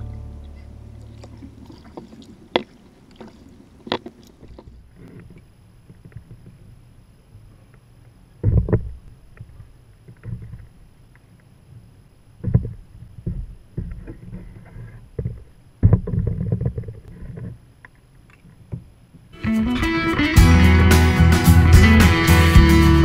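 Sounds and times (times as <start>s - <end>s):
kayak paddle strokes: 0.0s - 6.8s, 7.4s - 20.0s
water sloshing against hull: 0.4s - 19.0s.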